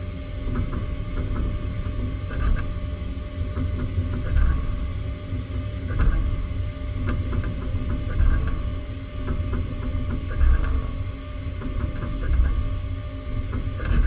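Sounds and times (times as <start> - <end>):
machine hum and rumble: 0.0 - 14.0.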